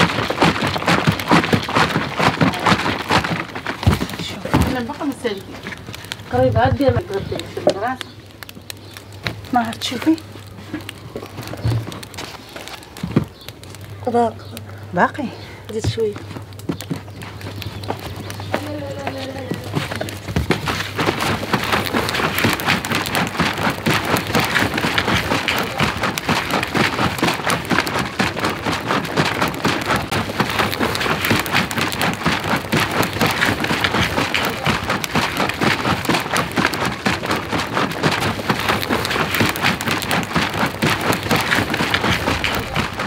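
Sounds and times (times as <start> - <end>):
dense crackling patter: 0.0 - 43.0.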